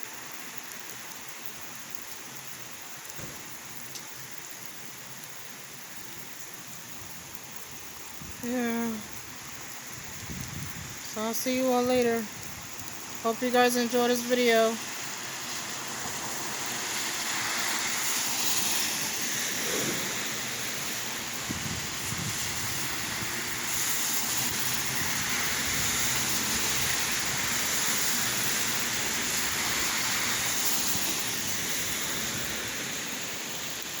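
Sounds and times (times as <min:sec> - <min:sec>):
rain falling and splashing: 0:00.0 - 0:34.0.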